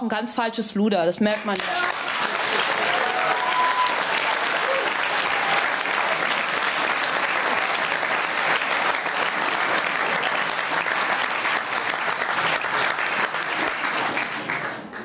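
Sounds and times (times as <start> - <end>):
audience applauding: 1.4 - 15.0.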